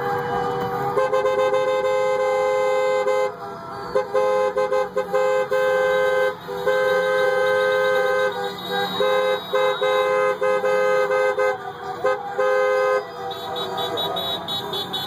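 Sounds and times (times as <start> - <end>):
car horns honking: 0.0 - 15.0.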